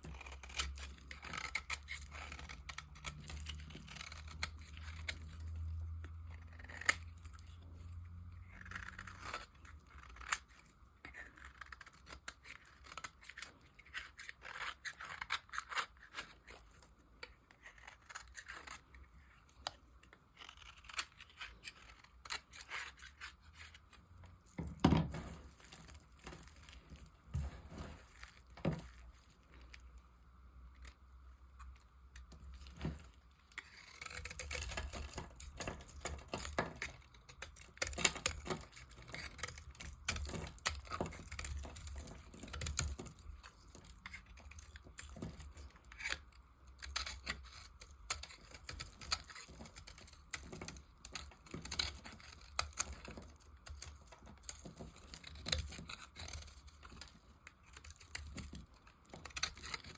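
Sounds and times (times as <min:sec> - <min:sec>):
blade cutting dry soap: 0:00.0 - 0:59.9.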